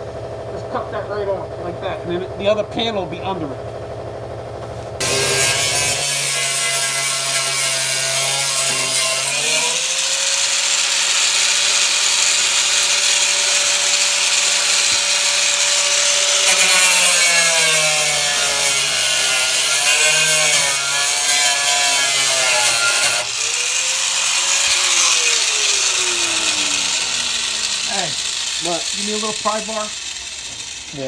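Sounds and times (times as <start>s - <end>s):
cut-off wheel grinding metal: 5.0s - 31.0s.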